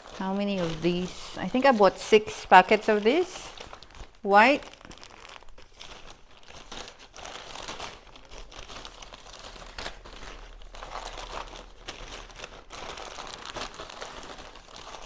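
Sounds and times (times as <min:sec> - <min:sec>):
plastic packets rustling and crinkling: 0:00.0 - 0:15.0.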